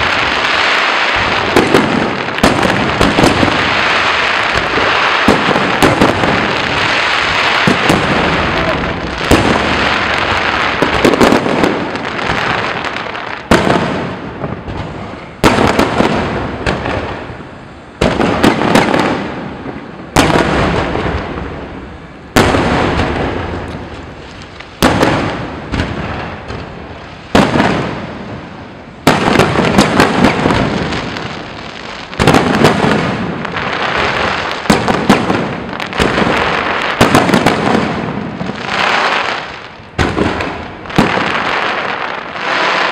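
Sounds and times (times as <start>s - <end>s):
fireworks booms echoing: 0.0s - 42.9s
fireworks crackling and popping: 0.0s - 42.9s.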